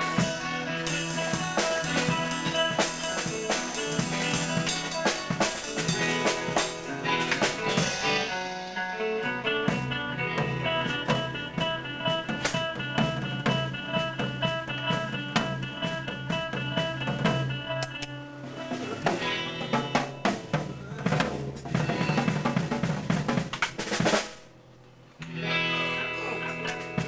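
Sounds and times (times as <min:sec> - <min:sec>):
drum kit hits: 0:00.0 - 0:17.5, 0:18.5 - 0:24.5
electric guitar riff: 0:00.0 - 0:23.9, 0:25.2 - 0:27.0.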